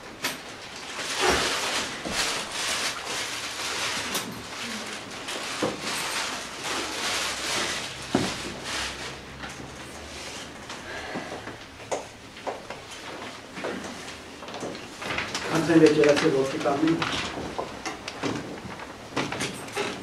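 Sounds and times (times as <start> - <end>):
people rustling and shuffling: 0.7 - 20.0.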